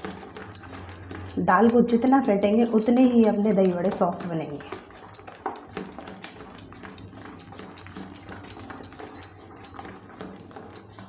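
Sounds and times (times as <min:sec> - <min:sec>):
hand slapping batter in bowl: 0:00.0 - 0:11.0.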